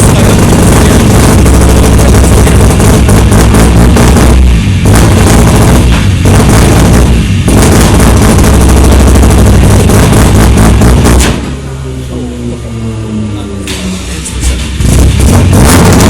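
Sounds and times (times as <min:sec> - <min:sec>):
rotary engine revving hard: 0:00.0 - 0:11.7, 0:14.0 - 0:16.0.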